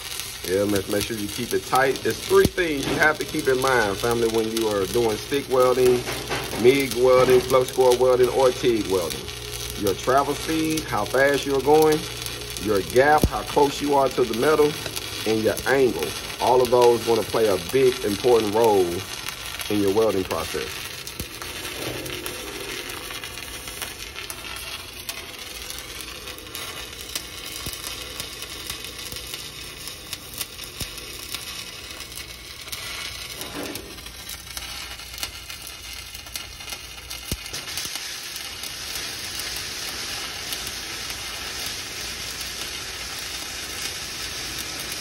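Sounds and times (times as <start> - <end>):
welding arc crackling: 0.0 - 45.0.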